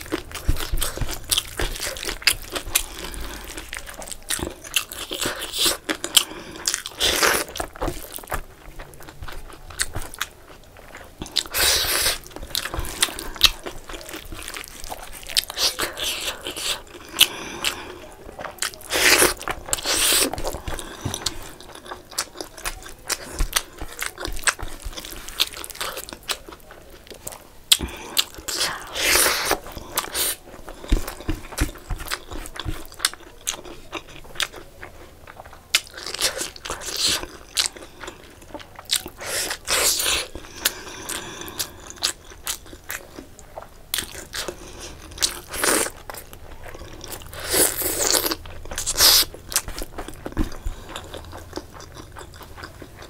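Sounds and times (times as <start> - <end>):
wet chewing and lip-smacking: 0.0 - 53.0.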